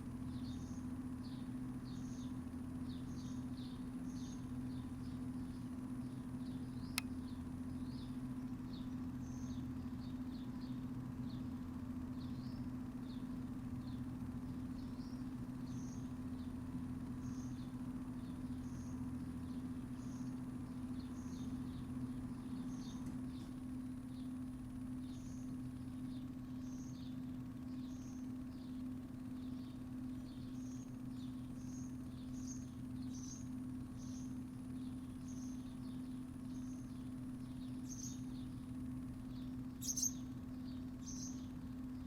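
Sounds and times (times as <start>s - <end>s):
faint high-pitched whine: 0.0s - 42.0s
low mechanical hum: 0.0s - 42.0s
small bird chirping: 0.2s - 42.0s.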